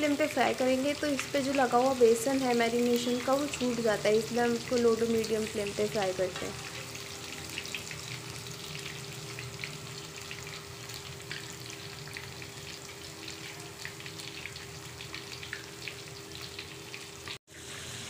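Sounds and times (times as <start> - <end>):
chicken deep-frying in oil: 0.0 - 18.0.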